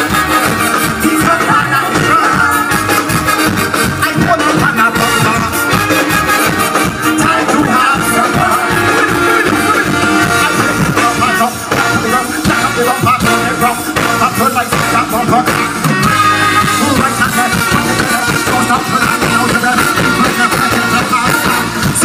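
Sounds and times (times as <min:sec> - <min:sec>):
lead vocal singing: 0:00.0 - 0:22.0
live soca band music: 0:00.0 - 0:22.0.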